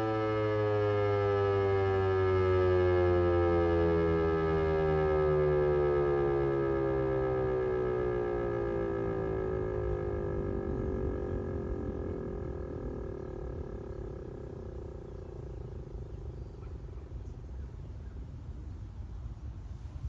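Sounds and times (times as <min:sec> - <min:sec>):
warning siren winding down: 0:00.0 - 0:17.8
steady low rumble: 0:00.0 - 0:20.0.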